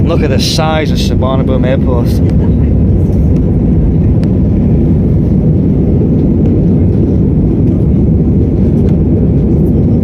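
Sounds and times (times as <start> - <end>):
jet engines rumbling: 0.0 - 10.0
rushing air: 0.0 - 10.0.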